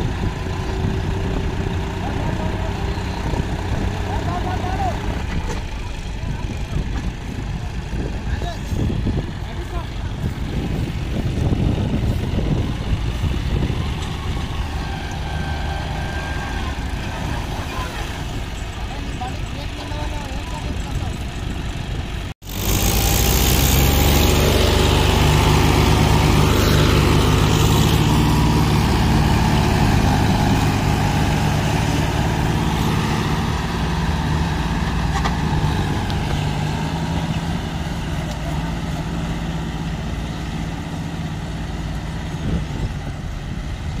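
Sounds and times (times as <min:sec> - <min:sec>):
diesel tractor engines under load: 0:00.0 - 0:44.0.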